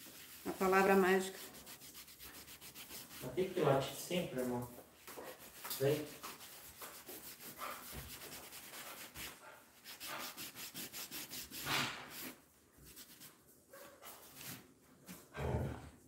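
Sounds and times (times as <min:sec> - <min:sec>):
cloth rubbing on wooden board: 0:00.0 - 0:13.3
scrape on wood: 0:00.0 - 0:15.2.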